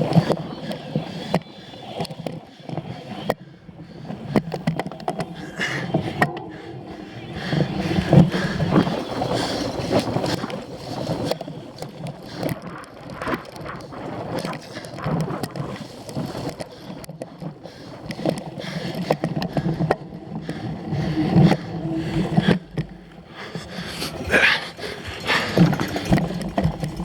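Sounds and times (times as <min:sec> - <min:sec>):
bike knocking and rattling: 0:00.0 - 0:27.0
wind and tyre noise: 0:00.0 - 0:27.0.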